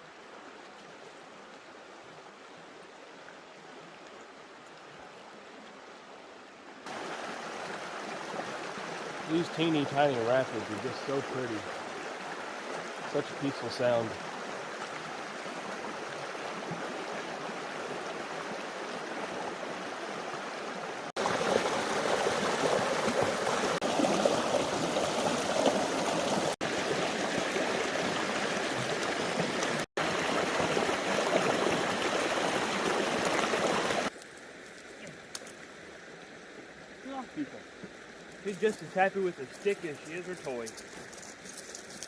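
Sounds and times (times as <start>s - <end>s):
creek water rushing over rapids: 0.0s - 34.2s, 35.0s - 41.2s.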